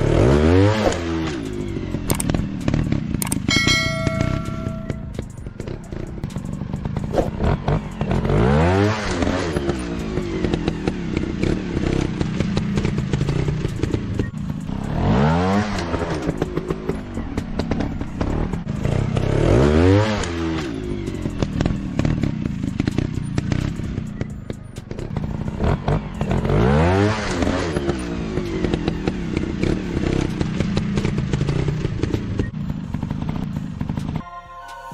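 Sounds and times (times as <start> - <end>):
motorcycle engines revving: 0.0 - 34.2.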